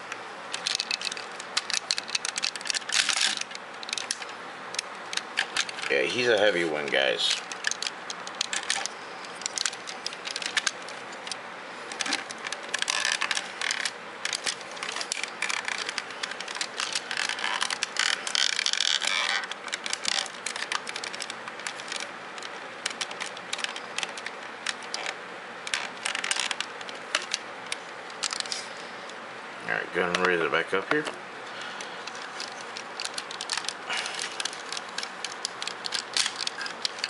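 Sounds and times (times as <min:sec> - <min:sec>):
plastic toy clicking and scraping: 0:00.5 - 0:28.7, 0:31.6 - 0:37.0.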